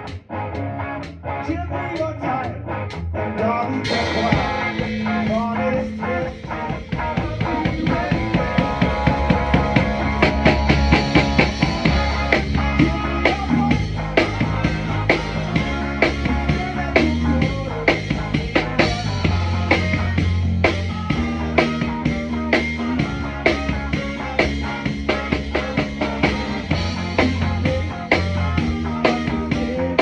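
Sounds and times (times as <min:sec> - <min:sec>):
live rock band playing: 0:00.0 - 0:30.0
drum kit beat: 0:03.8 - 0:30.0.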